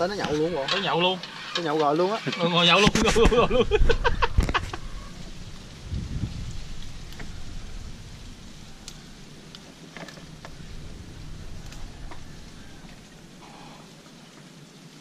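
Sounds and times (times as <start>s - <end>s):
leaves rustling: 0.0s - 15.0s
steady hiss: 0.0s - 15.0s.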